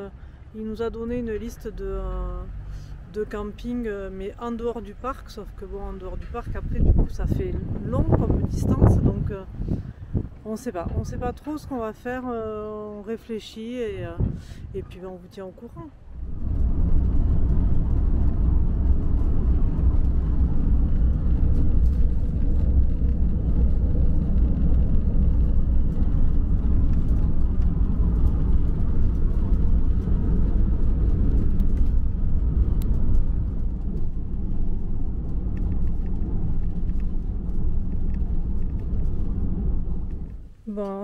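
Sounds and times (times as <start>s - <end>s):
engine and road rumble: 0.0s - 41.0s.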